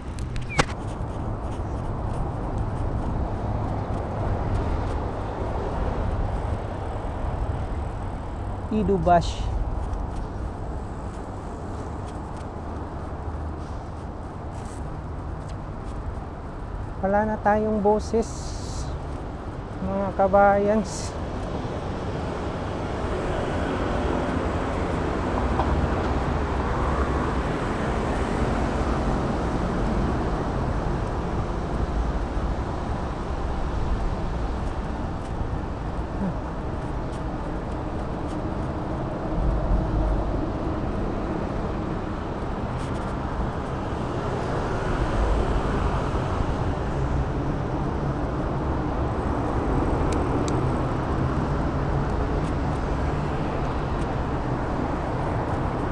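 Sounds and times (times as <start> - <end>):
passing vehicles and road noise: 0.0 - 55.9.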